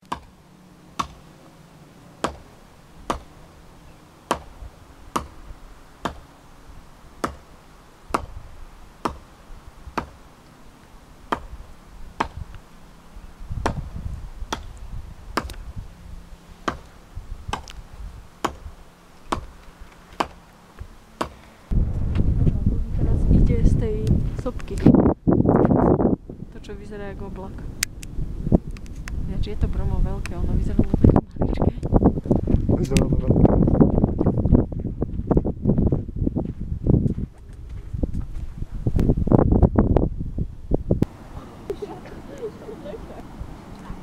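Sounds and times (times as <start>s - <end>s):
low rumbling: 0.0s - 44.0s.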